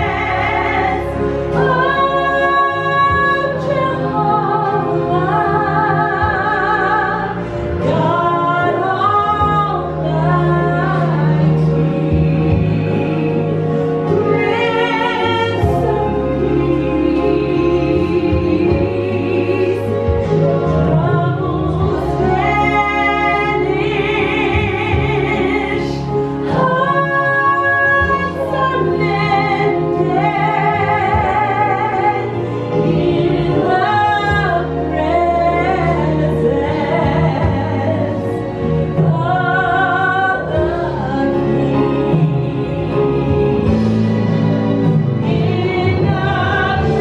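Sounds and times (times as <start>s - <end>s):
woman singing into microphone: 0.0s - 43.9s, 45.2s - 47.0s
instrumental accompaniment: 0.0s - 47.0s.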